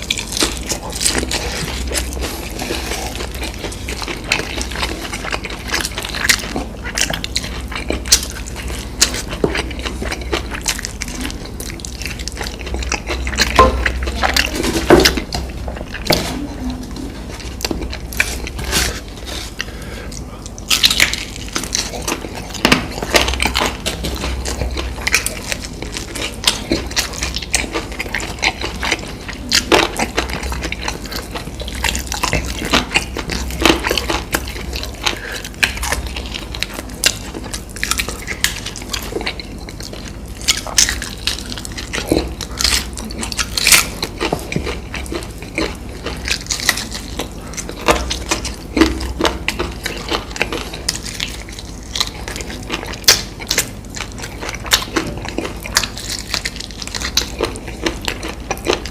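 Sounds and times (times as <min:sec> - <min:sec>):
crunching and wet chewing: 0:00.0 - 0:58.9.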